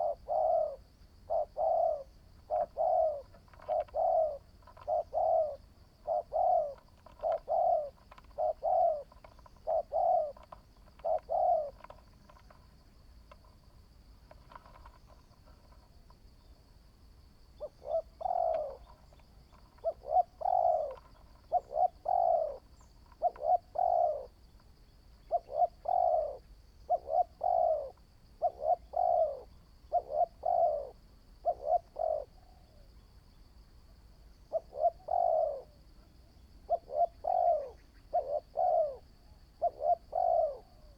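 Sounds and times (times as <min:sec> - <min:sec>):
dove cooing: 0:00.0 - 0:13.6, 0:17.5 - 0:24.4, 0:25.2 - 0:33.0, 0:34.4 - 0:40.9.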